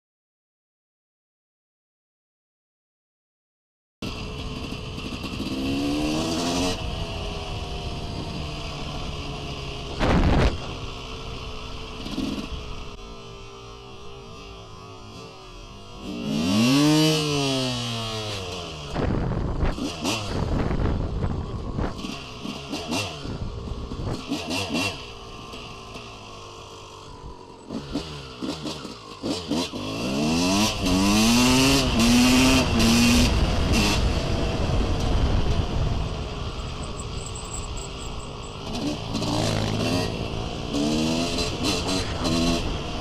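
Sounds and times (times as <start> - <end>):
motorcycle engine revving: 4.0 - 43.0.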